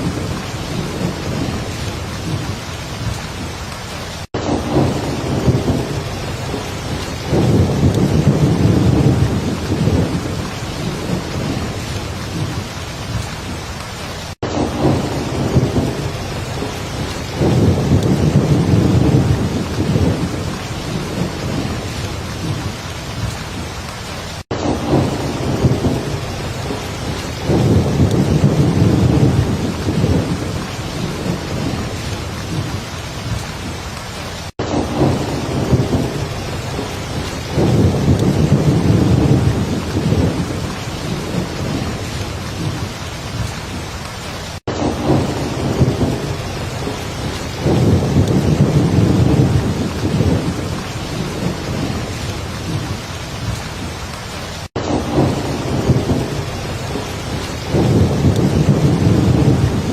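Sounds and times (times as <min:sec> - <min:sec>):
heavy rain: 0:00.0 - 0:59.9
thunder rumbles: 0:00.0 - 0:59.9.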